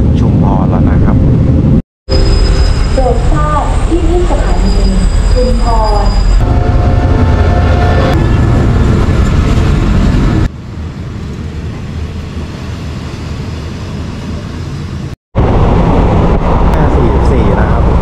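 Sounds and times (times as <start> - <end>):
train carriage rumble: 2.6 - 18.0.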